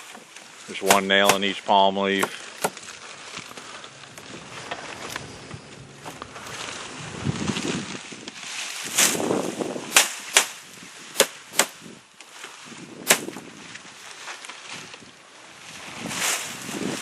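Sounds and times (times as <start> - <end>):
palm leaves rustling: 0.0 - 17.0.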